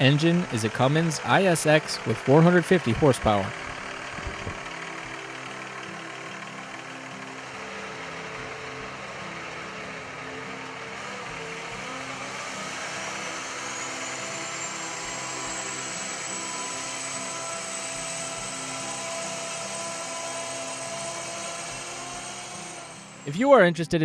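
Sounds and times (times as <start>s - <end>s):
diesel truck engine running: 0.0s - 23.5s
engine whine rising in pitch: 0.0s - 23.5s.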